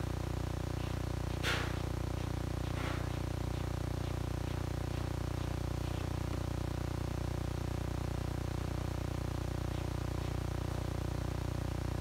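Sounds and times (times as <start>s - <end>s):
low fluttering hum: 0.0s - 12.0s.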